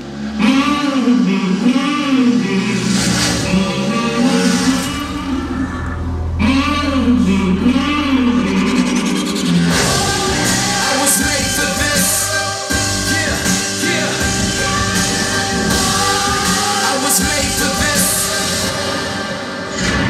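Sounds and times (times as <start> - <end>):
rock music with singing over loudspeakers: 0.0 - 20.0.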